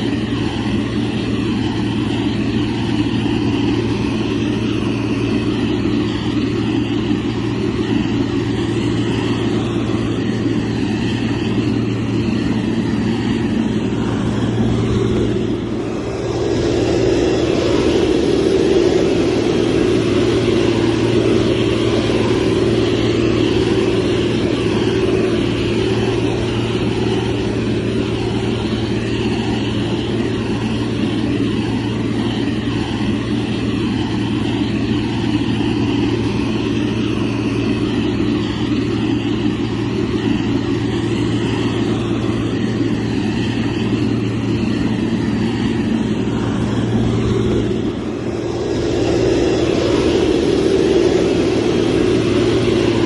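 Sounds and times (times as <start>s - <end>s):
diesel engine running under load: 0.0s - 53.0s.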